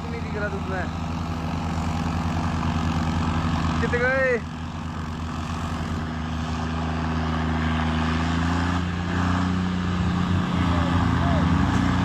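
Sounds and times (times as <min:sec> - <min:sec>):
tractor engines under load: 0:00.0 - 0:12.0.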